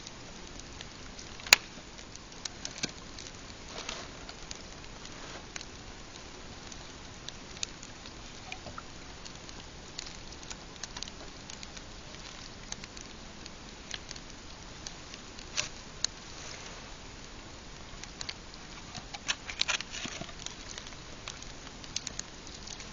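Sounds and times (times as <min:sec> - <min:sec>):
campfire crackling and popping: 0:00.0 - 0:22.9
steady background noise: 0:00.0 - 0:22.9.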